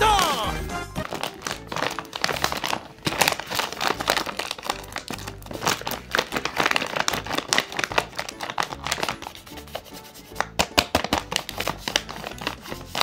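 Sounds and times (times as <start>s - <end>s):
paper crinkling and rustling: 1.0s - 13.0s.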